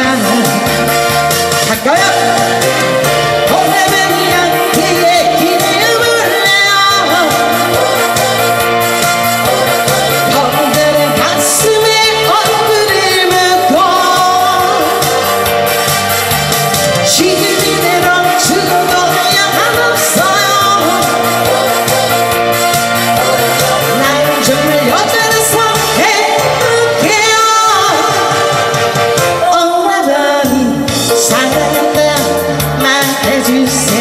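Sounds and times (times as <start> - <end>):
woman singing into microphone: 0.0 - 16.0, 16.9 - 34.0
instrumental backing track: 0.0 - 34.0.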